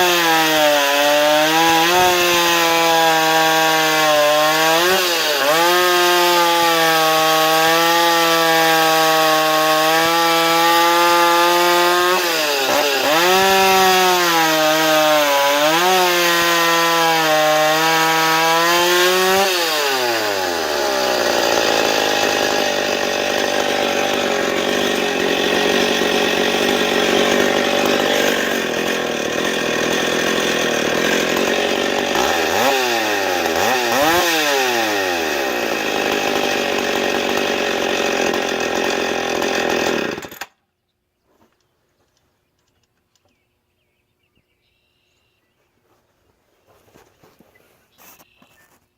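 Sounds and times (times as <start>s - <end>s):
chainsaw cutting wood: 0.0s - 40.6s
chainsaw running: 0.0s - 40.6s.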